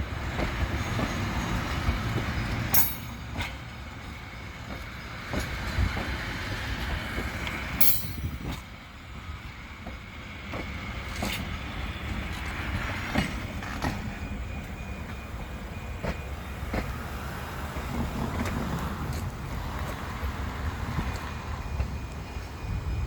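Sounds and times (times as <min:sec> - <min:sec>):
sharp clacks of train wheels: 0:00.0 - 0:23.0
train rumbling along track: 0:00.0 - 0:23.0.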